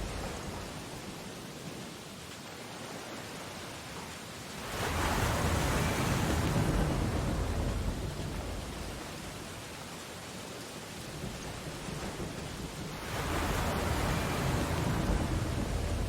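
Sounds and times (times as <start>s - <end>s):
ocean waves crashing on shore: 0.0s - 16.0s.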